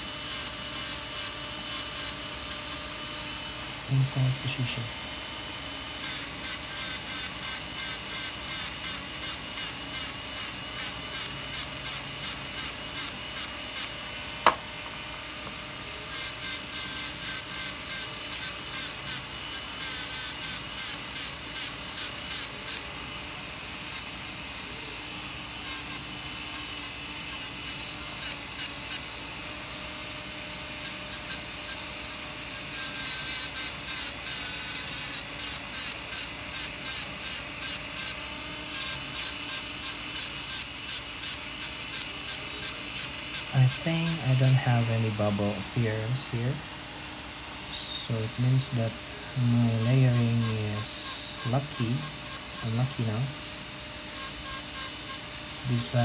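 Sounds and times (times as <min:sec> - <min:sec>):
dental handpiece grinding: 0:00.0 - 0:56.0.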